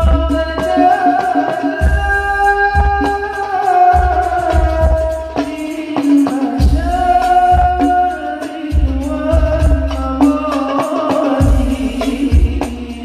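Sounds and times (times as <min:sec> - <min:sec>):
deep bass drum beats: 0:00.0 - 0:05.6, 0:06.6 - 0:13.0
hand percussion: 0:00.0 - 0:13.0
man singing ornamented vocal lines: 0:00.0 - 0:13.0.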